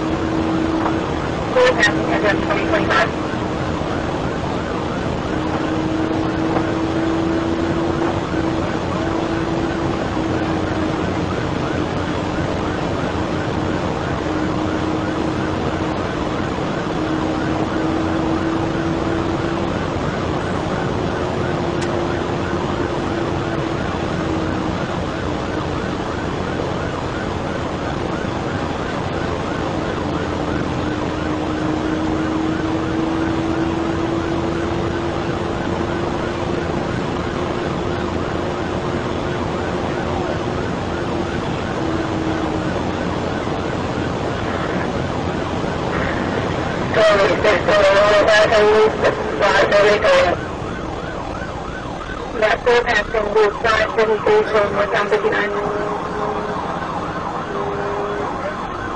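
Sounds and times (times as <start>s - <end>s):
car engine drone: 0.0s - 58.9s
wind and road noise: 0.0s - 58.9s.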